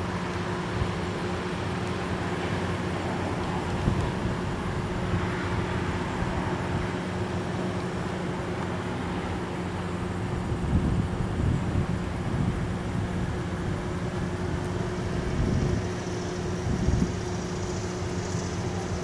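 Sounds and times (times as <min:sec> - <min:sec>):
low train hum and rumble: 0:00.0 - 0:19.0.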